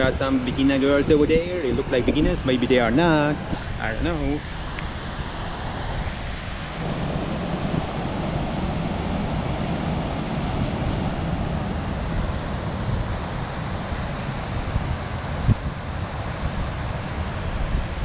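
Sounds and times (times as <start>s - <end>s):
wind buffeting microphone: 0.0s - 18.0s
waves breaking on a beach: 2.9s - 18.0s.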